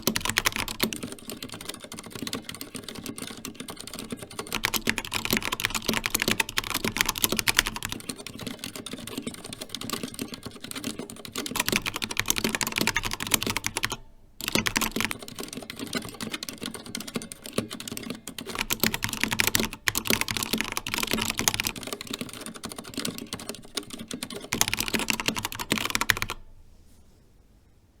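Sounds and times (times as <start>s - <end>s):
mechanical keyboard typing: 0.0s - 26.5s.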